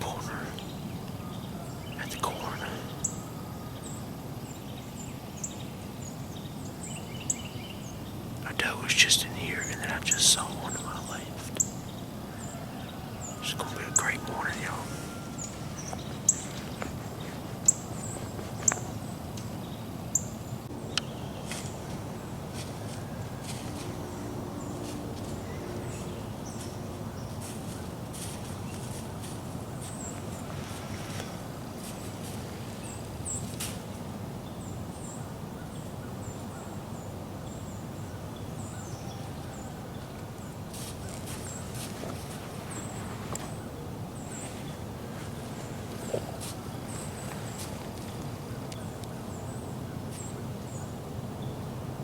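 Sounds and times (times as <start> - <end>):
small birds chirping: 0.0 - 51.8
low background noise: 0.0 - 52.0.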